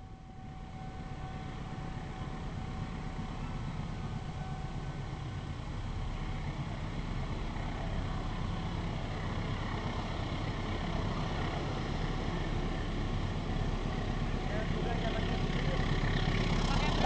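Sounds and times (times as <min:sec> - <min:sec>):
locomotive engine rumbling: 0:00.0 - 0:17.0.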